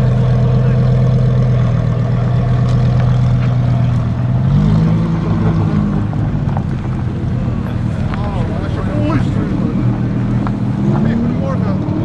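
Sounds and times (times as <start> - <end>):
sports car engine idling: 0.0 - 12.0.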